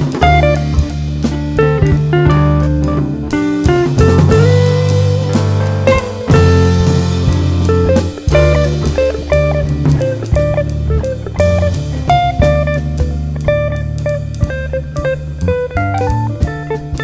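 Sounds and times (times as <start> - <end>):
bass line: 0.0 - 17.0
drum kit beat: 0.0 - 17.0
plucked guitar notes: 0.0 - 17.0.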